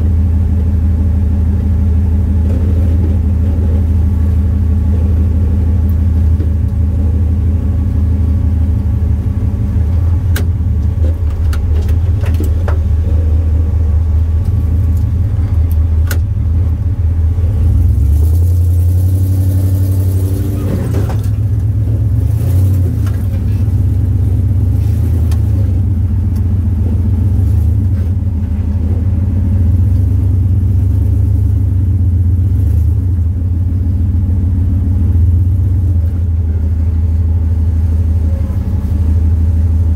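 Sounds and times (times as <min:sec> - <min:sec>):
engine droning under load: 0:00.0 - 0:39.9.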